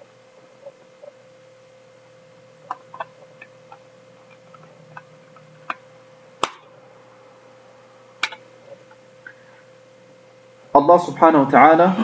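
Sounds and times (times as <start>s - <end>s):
steady faint hum: 0.0s - 12.0s.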